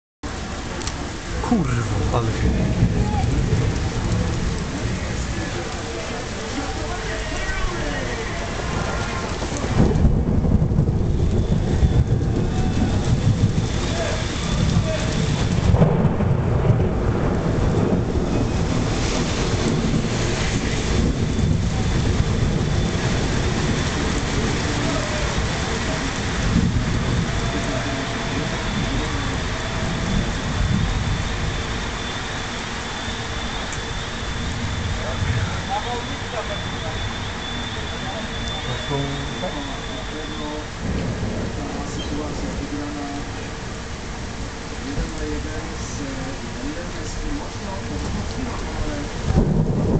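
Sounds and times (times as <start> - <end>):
steady rain: 0.2 - 49.9
thunder rumbling: 0.3 - 49.9.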